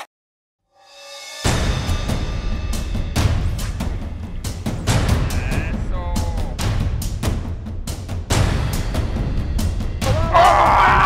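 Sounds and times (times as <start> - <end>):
music with heavy drum hits: 1.4 - 11.0.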